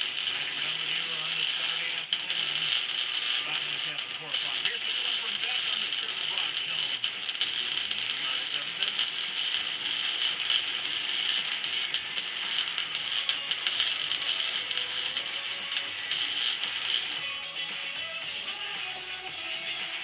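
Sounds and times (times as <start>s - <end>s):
fine popping spatter: 0.0s - 17.4s
welding arc crackling and hissing: 0.0s - 20.0s.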